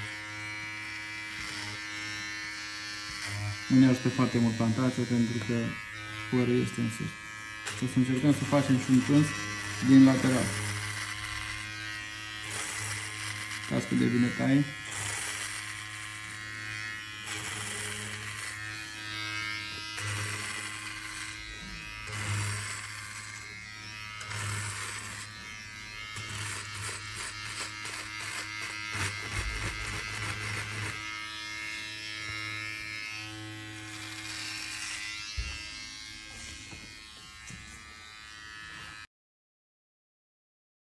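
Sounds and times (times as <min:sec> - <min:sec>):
hair trimmer buzzing: 0:00.0 - 0:39.1
hiss of cutting hair: 0:00.0 - 0:39.1.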